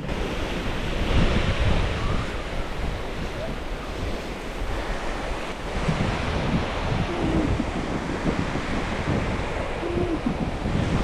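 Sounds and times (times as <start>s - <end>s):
sea waves on shore: 0.0s - 11.0s
wind buffeting microphone: 0.0s - 11.0s.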